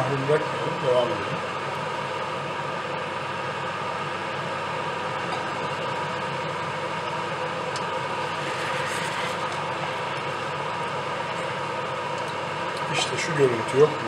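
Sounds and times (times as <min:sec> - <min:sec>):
octopus bubbling and hissing in pot: 0:00.7 - 0:12.8.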